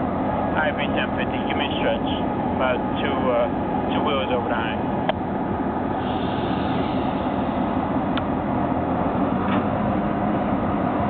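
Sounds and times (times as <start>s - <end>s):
diesel locomotive engines running: 0.0s - 11.0s.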